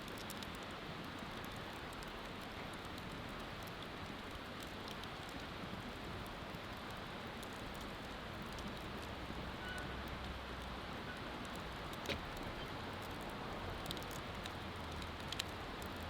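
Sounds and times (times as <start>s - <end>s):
wood bonfire crackling: 0.0s - 16.0s.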